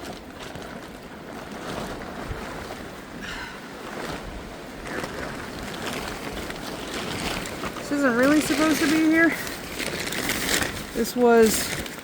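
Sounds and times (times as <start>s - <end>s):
wind gusting: 1.3s - 11.9s.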